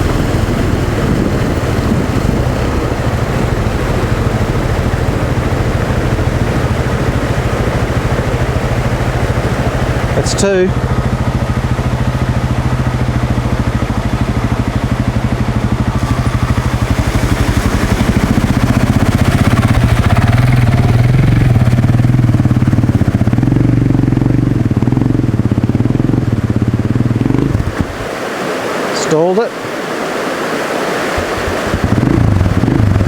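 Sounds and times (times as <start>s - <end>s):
motorcycle engine under load: 0.0s - 28.1s, 31.3s - 33.0s.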